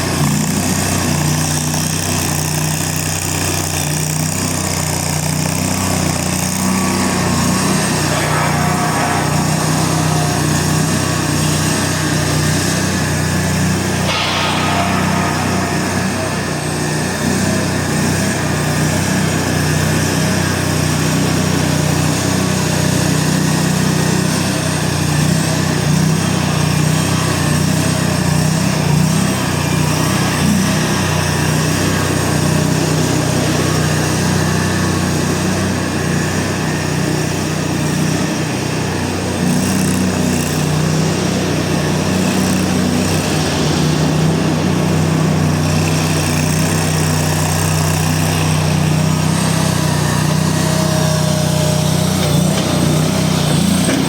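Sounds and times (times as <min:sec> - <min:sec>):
loader engine running: 0:03.4 - 0:25.7, 0:30.0 - 0:54.0.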